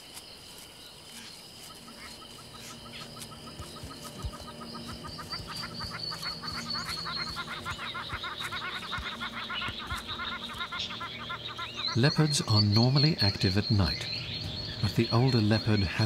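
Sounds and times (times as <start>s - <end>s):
birds chirping: 0.0s - 16.0s
high insect drone: 0.0s - 16.0s.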